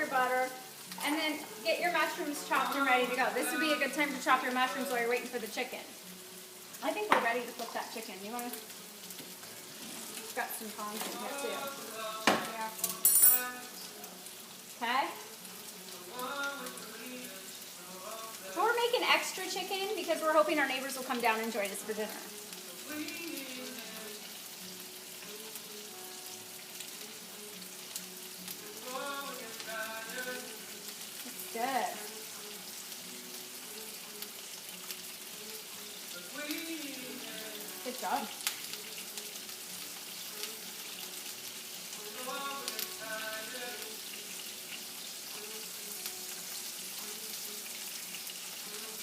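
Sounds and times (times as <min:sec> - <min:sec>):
chicken sizzling in a frying pan: 0:00.0 - 0:49.0.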